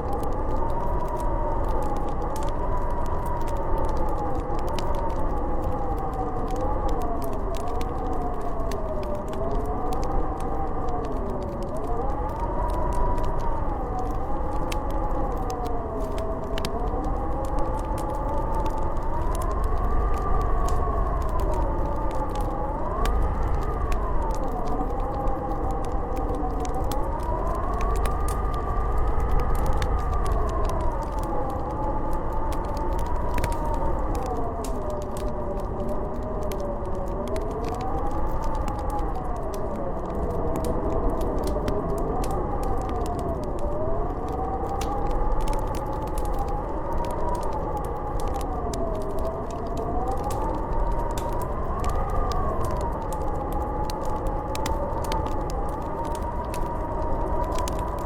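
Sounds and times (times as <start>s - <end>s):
howling blizzard wind: 0.0s - 58.0s
wood fire crackling: 0.0s - 58.0s.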